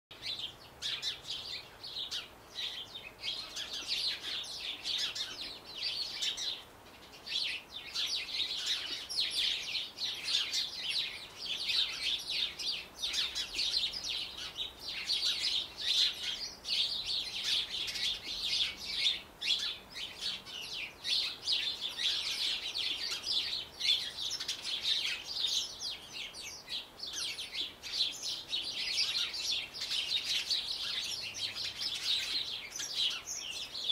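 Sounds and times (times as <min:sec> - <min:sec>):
songbirds chirping and twittering: 0:00.1 - 0:33.9.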